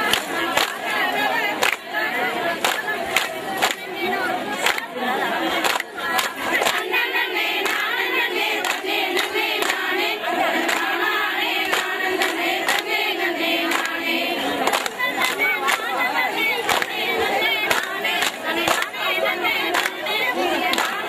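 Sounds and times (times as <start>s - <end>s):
hand-claps: 0.0s - 21.0s
women singing in chorus: 0.0s - 21.0s.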